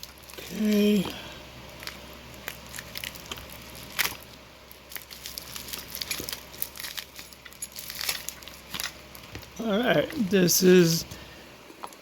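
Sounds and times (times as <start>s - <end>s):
packing material crinkling and tearing: 0.0s - 10.3s.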